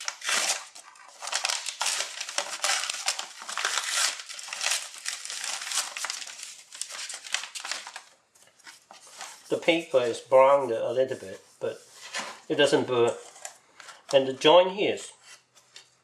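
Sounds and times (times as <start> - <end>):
paper crinkling and rustling: 0.0 - 10.2, 11.1 - 14.5.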